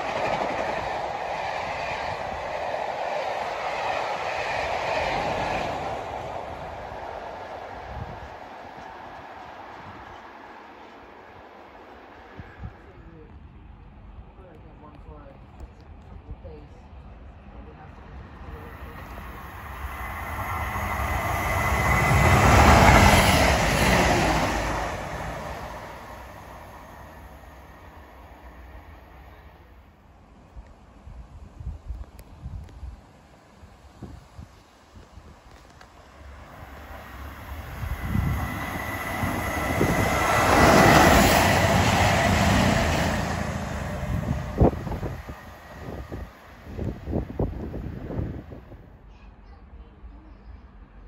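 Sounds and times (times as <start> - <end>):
diesel train passing at speed: 0.0 - 49.1.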